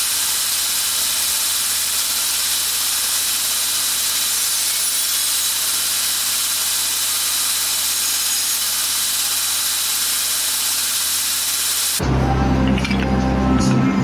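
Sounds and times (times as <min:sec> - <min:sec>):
machine hiss: 0:00.0 - 0:12.0.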